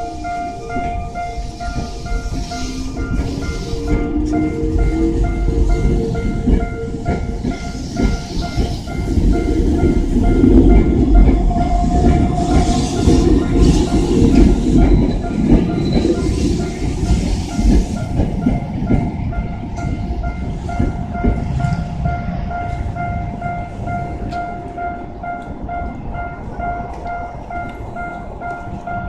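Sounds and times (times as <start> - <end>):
crossing warning bell ringing: 0.0 - 29.0
train wheels rumbling on rails: 0.0 - 29.0.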